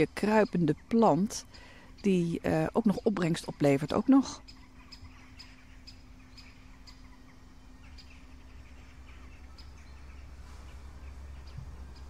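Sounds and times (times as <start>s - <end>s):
faint low rumble: 0.0s - 12.0s
small bird chirping: 0.0s - 12.0s
steady hum: 0.0s - 12.0s.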